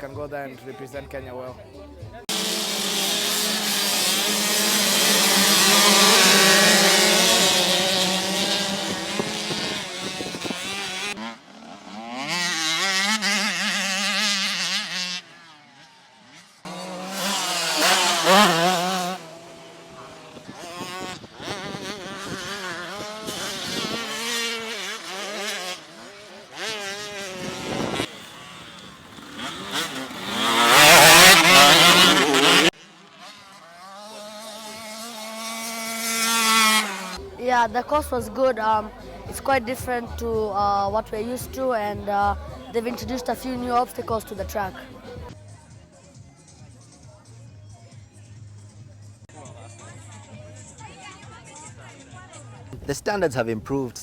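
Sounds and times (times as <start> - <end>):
motocross bikes racing past: 2.2 - 46.2.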